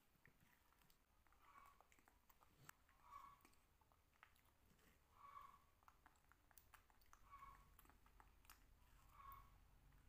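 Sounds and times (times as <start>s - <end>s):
soft mouth sounds eating: 0.0s - 10.0s.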